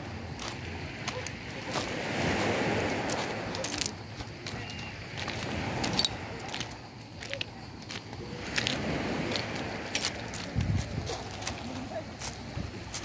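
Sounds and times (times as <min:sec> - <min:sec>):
steady background noise: 0:00.0 - 0:13.0
footsteps crunching on pebbles: 0:00.3 - 0:13.0.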